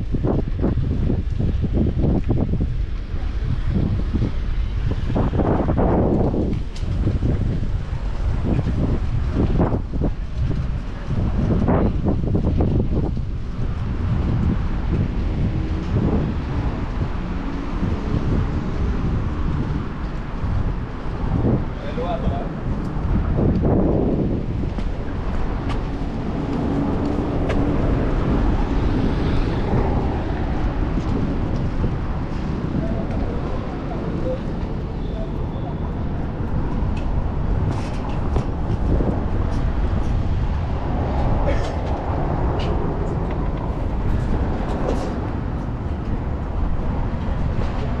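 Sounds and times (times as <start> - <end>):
bicycle road noise: 0.0 - 48.0
faint vehicle hum: 0.0 - 48.0
street traffic rumble: 0.0 - 48.0
wind on microphone: 0.0 - 48.0.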